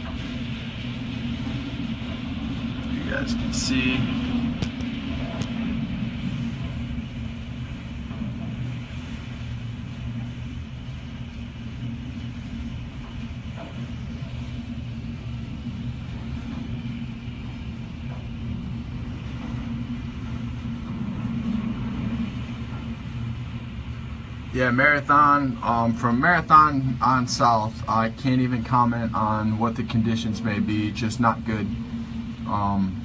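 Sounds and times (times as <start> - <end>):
wind rumbling behind window: 0.0 - 33.0.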